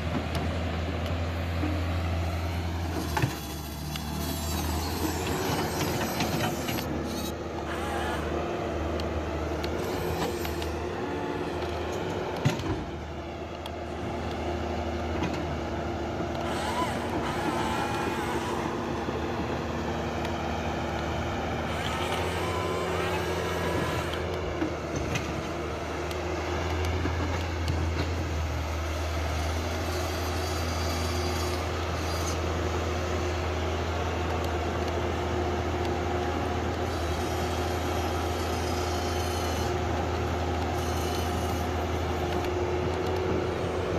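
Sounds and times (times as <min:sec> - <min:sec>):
toy excavator motors whining: 0:01.0 - 0:43.9.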